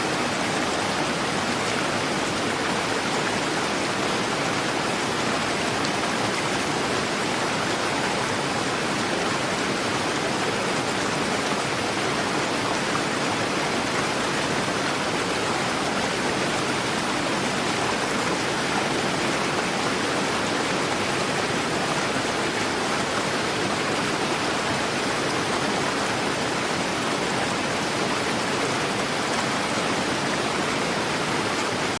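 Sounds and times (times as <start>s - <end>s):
river water rushing over rocks: 0.0s - 32.0s.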